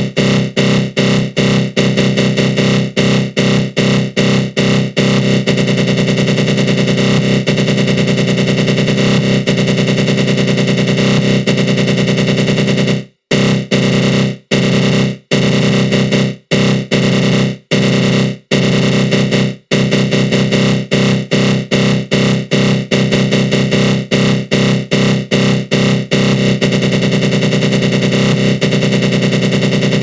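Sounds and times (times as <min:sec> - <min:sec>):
synthesized buzzy growl stuttering: 0:00.0 - 0:30.0.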